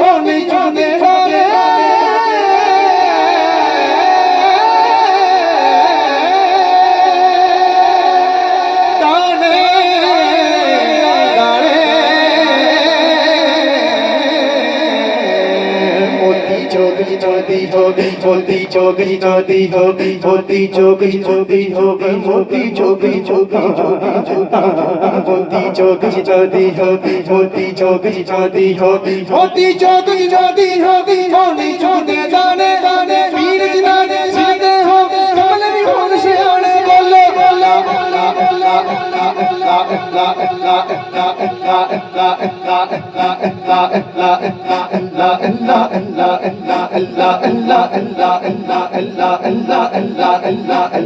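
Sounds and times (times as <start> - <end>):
man singing ornamented melody: 0.0 - 48.1.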